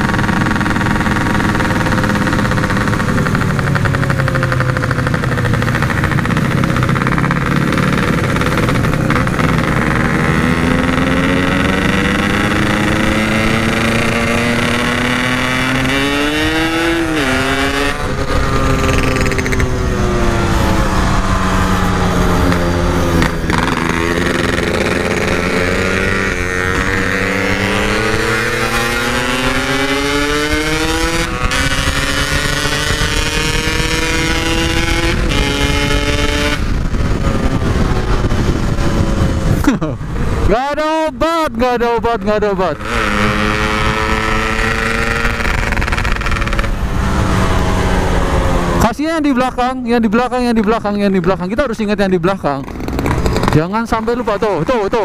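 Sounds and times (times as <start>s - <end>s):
motorcycle engine revving through gears: 0.0s - 40.5s, 42.2s - 48.9s, 52.4s - 55.0s.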